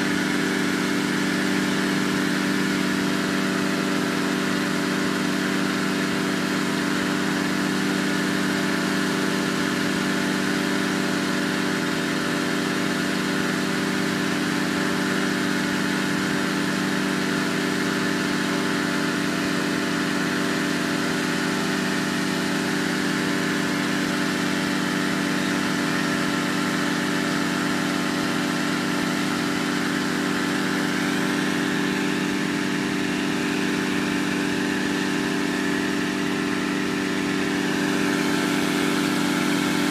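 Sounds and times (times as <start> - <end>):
inflator fan engine running: 0.0 - 10.3, 11.9 - 39.9.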